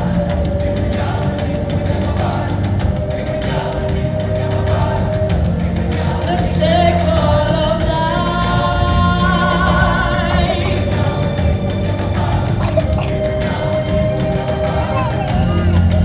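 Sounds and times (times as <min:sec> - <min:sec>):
choir singing long notes: 0:00.0 - 0:16.0
recorded show music: 0:00.0 - 0:16.0.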